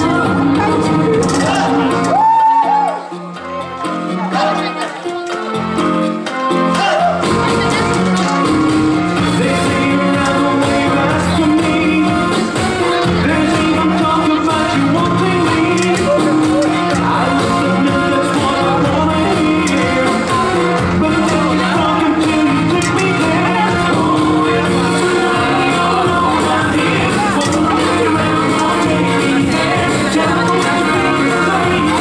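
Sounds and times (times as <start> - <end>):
latin dance music with singer: 0.0 - 32.0.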